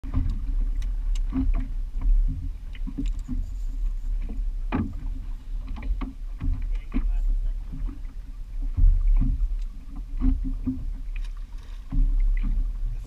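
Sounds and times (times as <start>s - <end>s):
steady low rumble: 0.0s - 13.0s
water slapping against boat hull: 0.0s - 13.0s.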